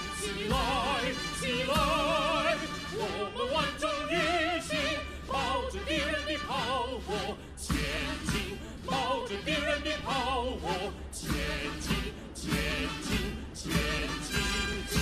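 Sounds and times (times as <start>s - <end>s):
opera-style singing: 0.0s - 15.0s
orchestral accompaniment: 0.0s - 15.0s.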